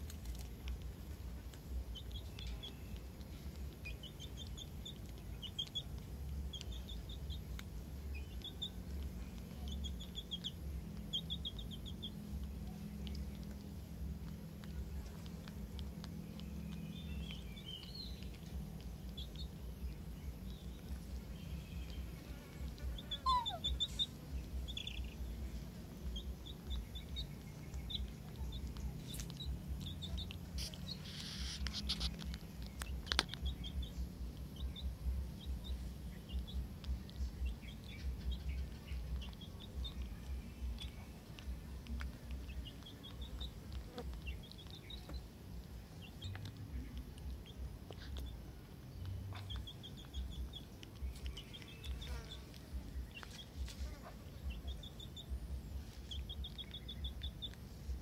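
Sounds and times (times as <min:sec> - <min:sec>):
small birds chirping: 0:00.0 - 0:58.0
steady low rumble: 0:00.0 - 0:58.0.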